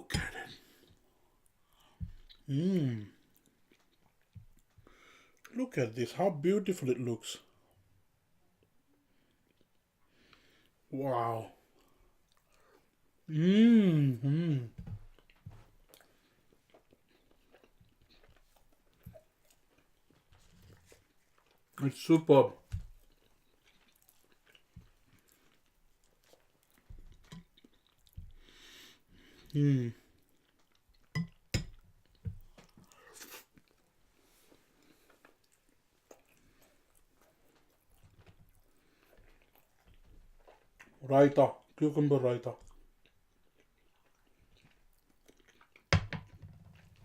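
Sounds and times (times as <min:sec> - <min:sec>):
person chewing: 0:00.1 - 0:05.5, 0:11.8 - 0:21.8, 0:22.8 - 0:41.0, 0:42.6 - 0:47.0.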